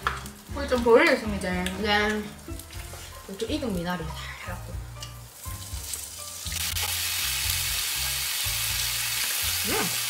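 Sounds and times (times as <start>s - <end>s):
meat sizzling on a grill pan: 0.0s - 10.0s.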